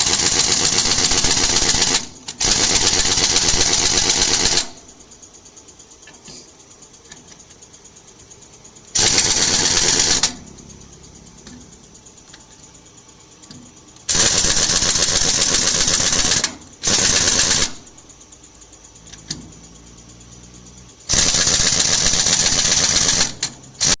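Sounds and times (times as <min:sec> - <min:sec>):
impact wrench rattling: 0:00.0 - 0:19.8, 0:20.4 - 0:24.0.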